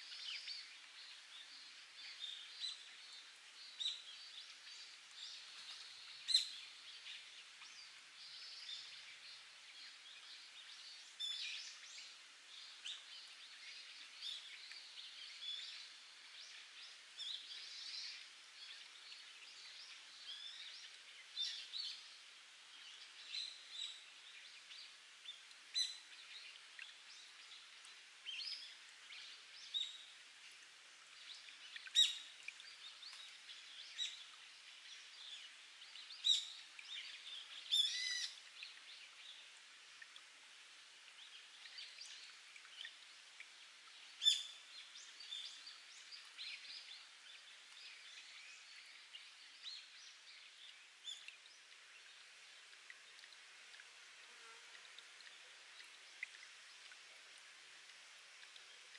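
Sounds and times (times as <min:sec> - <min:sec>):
water trickling over rock: 0:00.0 - 0:58.9.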